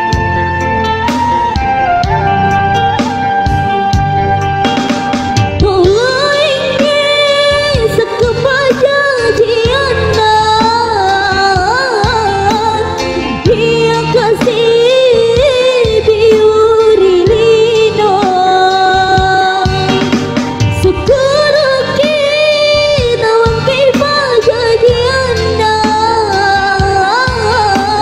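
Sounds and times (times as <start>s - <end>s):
instrumental accompaniment: 0.0s - 28.0s
woman singing into microphone: 5.3s - 28.0s.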